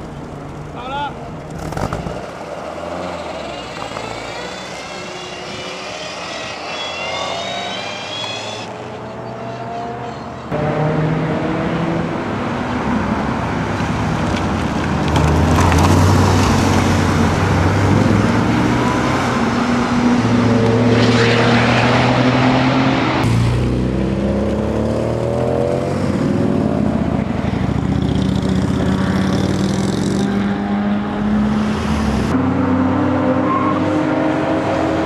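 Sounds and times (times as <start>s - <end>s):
sports cars accelerating past: 1.6s - 35.0s.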